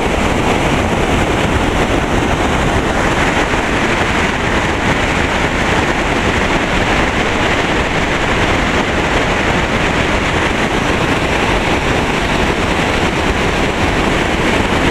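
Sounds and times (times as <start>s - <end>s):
water rushing over rocks: 0.0s - 14.9s.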